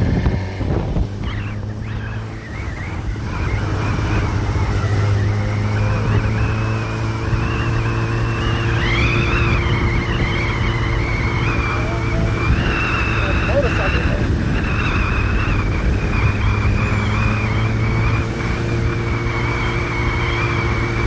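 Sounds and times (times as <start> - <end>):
engine humming: 0.0 - 21.0
high wavering whine: 0.0 - 21.0.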